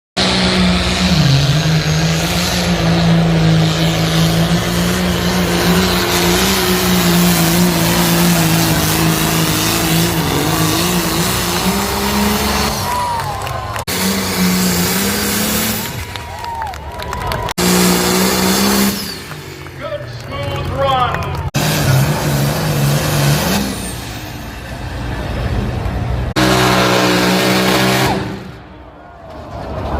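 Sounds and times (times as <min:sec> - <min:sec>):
tractor engine droning under load: 0:00.2 - 0:29.9.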